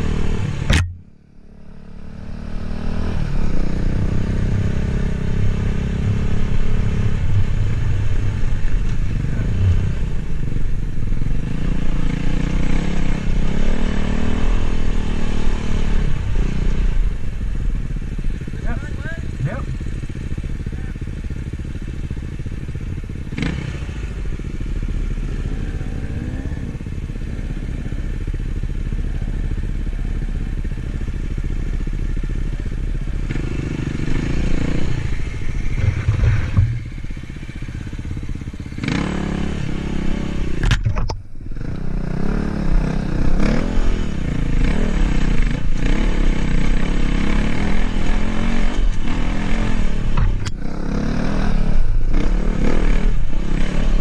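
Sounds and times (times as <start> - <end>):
dirt bike engine revving: 0.0 - 17.2, 18.0 - 28.2, 33.1 - 40.7, 41.5 - 54.0.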